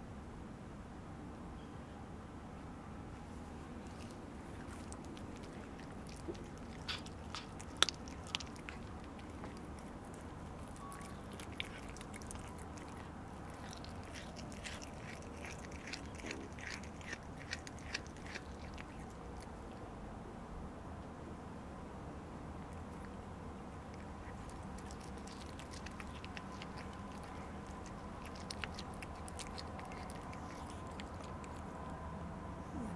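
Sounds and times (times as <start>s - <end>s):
cat chewing and crunching food: 3.2s - 20.0s, 22.2s - 32.9s.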